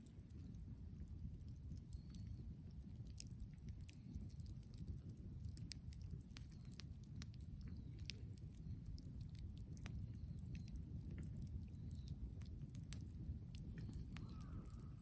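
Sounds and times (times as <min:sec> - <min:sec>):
low steady rumble: 0:00.0 - 0:15.0
bonfire crackling and popping: 0:00.1 - 0:15.0.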